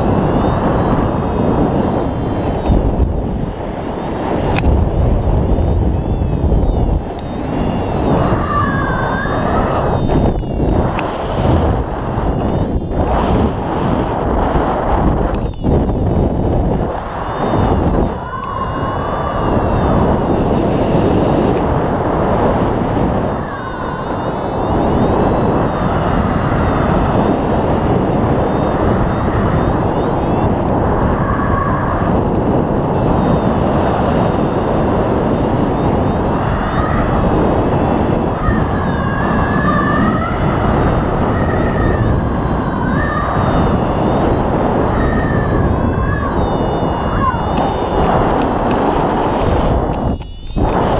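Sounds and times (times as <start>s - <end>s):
wind rushing over microphone: 0.0s - 50.9s
faint wavering tone: 5.4s - 14.2s, 15.4s - 21.6s, 22.2s - 30.6s, 33.0s - 50.9s.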